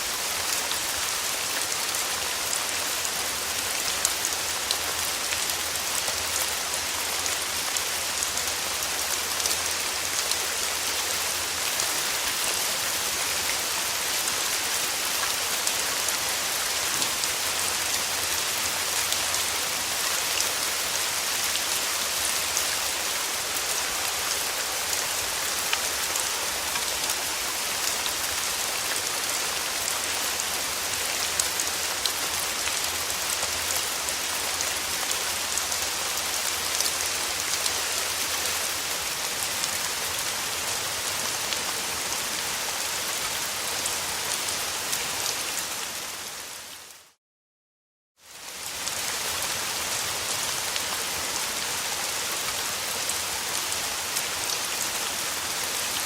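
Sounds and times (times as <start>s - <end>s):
steady rain pattering: 0.0s - 47.2s, 48.2s - 56.0s.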